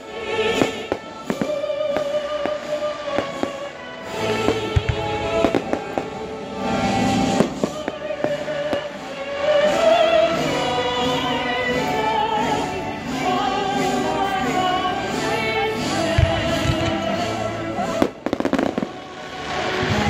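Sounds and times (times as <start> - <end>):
fireworks banging and crackling: 0.0 - 20.0
orchestral music with singing: 0.0 - 20.0.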